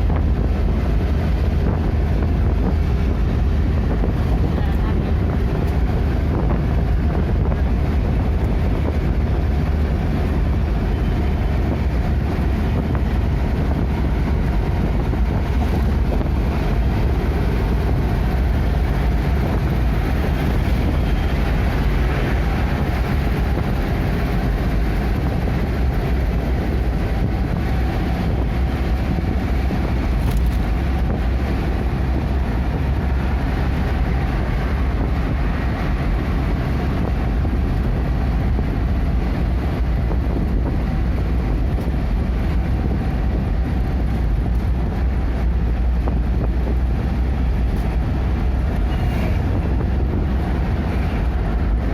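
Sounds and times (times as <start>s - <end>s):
road and engine noise: 0.0s - 51.9s
wind: 0.0s - 51.9s.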